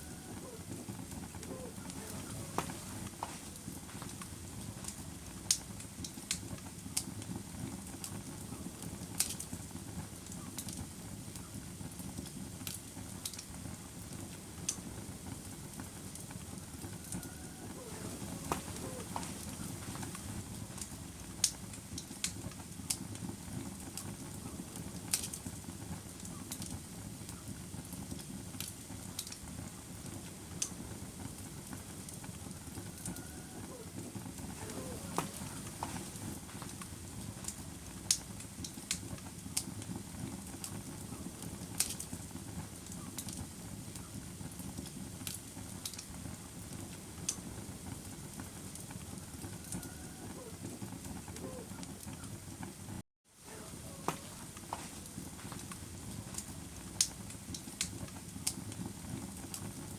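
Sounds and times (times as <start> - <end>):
wood fire crackling: 0.0 - 59.9
sharp pops of fire: 1.2 - 33.2, 33.8 - 49.8, 54.0 - 59.9.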